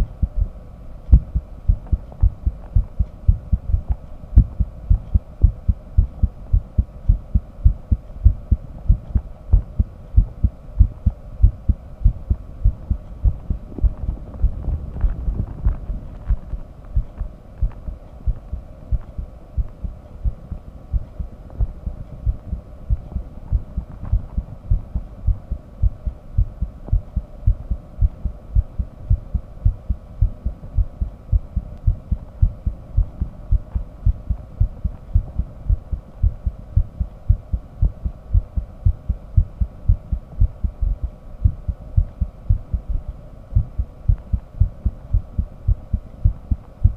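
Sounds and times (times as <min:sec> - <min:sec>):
faint steady hum: 0:00.0 - 0:46.9
heartbeat lub-dub: 0:00.0 - 0:46.9.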